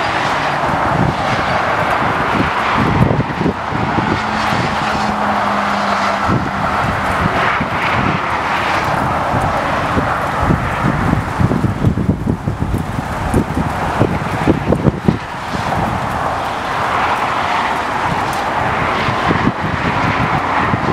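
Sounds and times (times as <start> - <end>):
cars passing at speed: 0.0 - 20.9.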